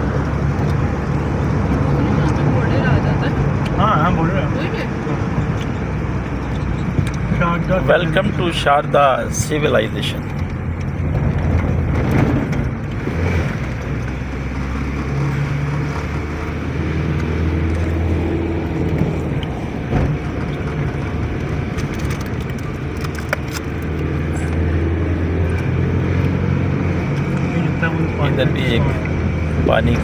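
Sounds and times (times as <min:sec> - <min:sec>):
road noise: 0:00.0 - 0:30.0
vehicle engine running: 0:00.0 - 0:30.0.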